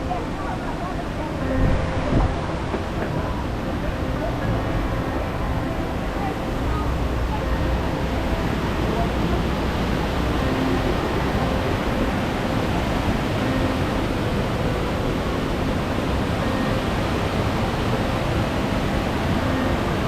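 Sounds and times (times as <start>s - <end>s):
faint scattered voices: 0.0s - 20.0s
steady rushing noise: 0.0s - 20.0s.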